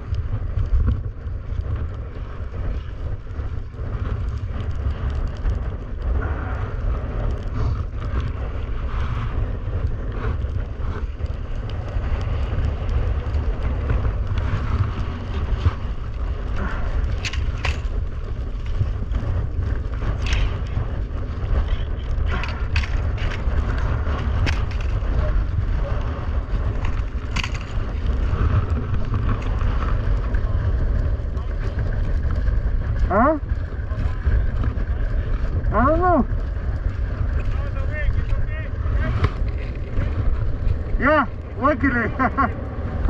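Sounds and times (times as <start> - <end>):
skis scraping across rough ice: 0.0 - 43.0
wind buffeting microphone: 0.0 - 43.0.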